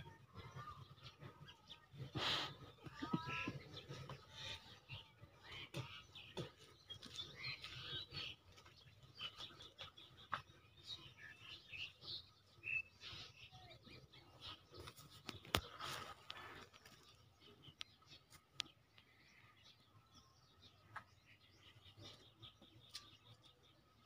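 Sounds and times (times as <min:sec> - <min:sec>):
faint bird chirps: 0:00.0 - 0:23.9.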